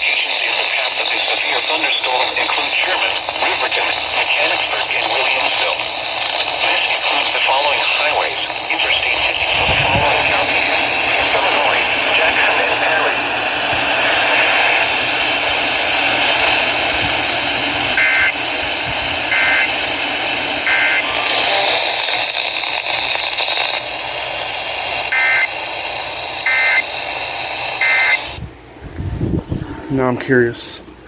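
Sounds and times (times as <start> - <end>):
digital data bursts: 0.0 - 28.4
radio static hiss: 0.0 - 28.7.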